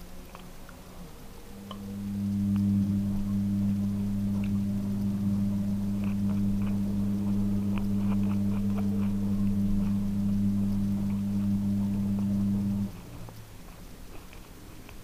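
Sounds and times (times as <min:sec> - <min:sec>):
machine humming: 0:00.9 - 0:13.6.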